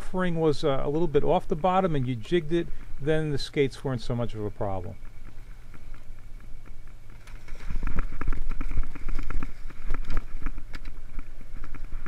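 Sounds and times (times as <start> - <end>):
boat engine hum: 0.0 - 12.0
wind buffeting microphone: 0.0 - 12.0.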